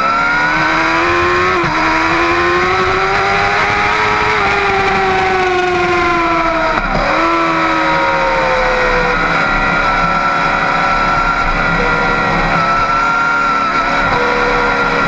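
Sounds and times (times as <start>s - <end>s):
motorcycle engine at speed: 0.0s - 15.0s
wind noise: 0.3s - 14.2s.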